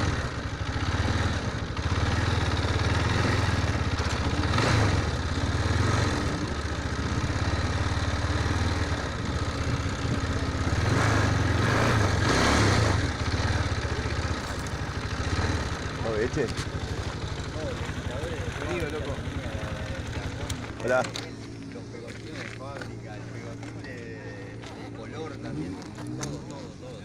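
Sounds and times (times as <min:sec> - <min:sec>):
motorcycle engine throbbing: 0:00.0 - 0:27.0.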